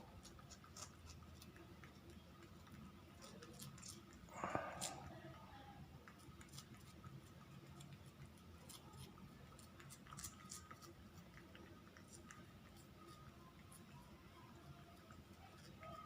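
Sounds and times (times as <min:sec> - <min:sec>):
cat licking and chewing: 0:00.0 - 0:16.0.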